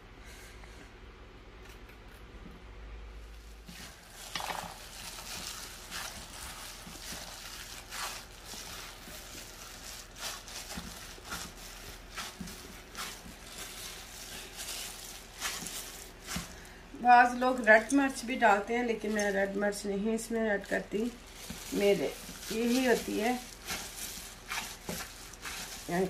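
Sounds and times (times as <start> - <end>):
hand kneading minced meat: 3.3 - 26.0.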